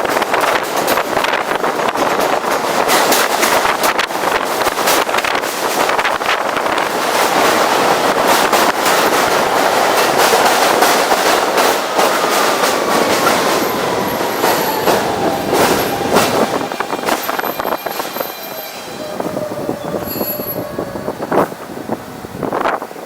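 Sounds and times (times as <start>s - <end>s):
wheels clicking over rail joints: 0.0s - 21.8s
train wind and rolling noise: 0.0s - 23.0s.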